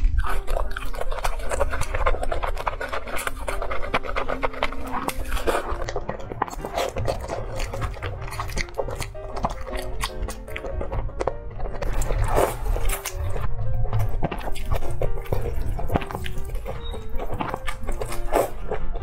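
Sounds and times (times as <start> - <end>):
lip smacking: 0.0 - 19.0
slurping noodles: 0.0 - 19.0
wet chewing: 0.0 - 19.0.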